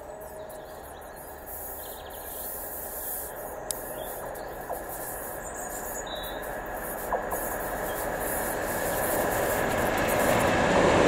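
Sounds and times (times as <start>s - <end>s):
distant diesel locomotive rumble: 0.0s - 11.0s.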